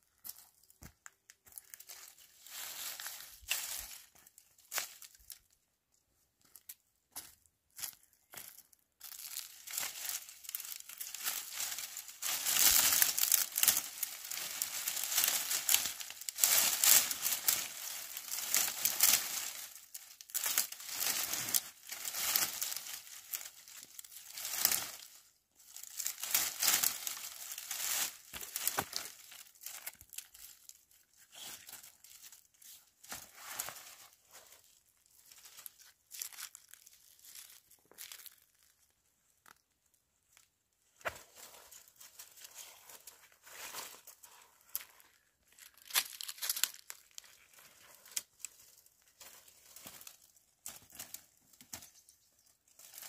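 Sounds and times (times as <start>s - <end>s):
twigs rustling and crackling: 0.1s - 5.6s, 6.4s - 53.0s.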